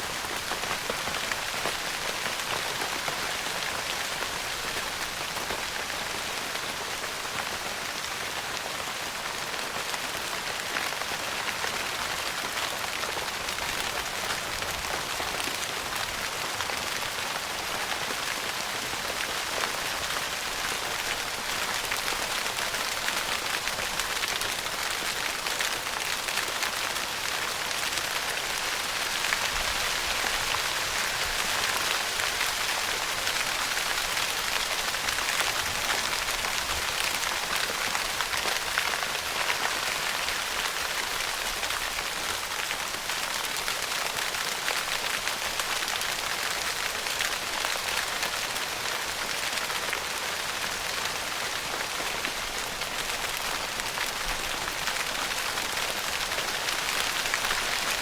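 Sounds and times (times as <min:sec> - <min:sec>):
rain pattering on tent fabric: 0:00.0 - 0:58.0.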